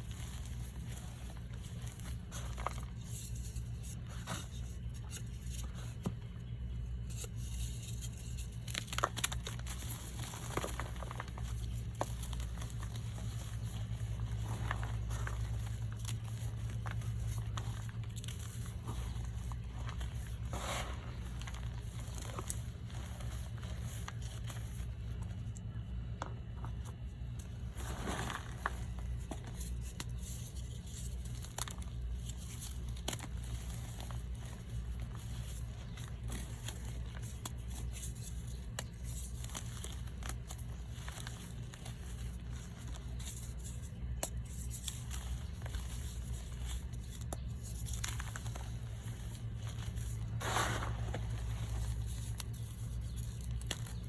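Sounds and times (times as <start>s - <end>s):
steady low hum: 0.0s - 54.0s
chalk blocks crunched by hand: 7.0s - 25.4s, 26.2s - 54.0s.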